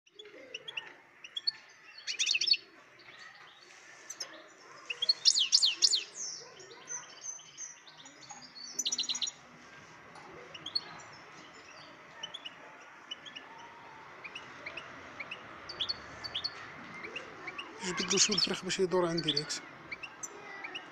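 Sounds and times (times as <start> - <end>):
finch singing high twittering: 0.1 - 9.4, 10.4 - 20.9.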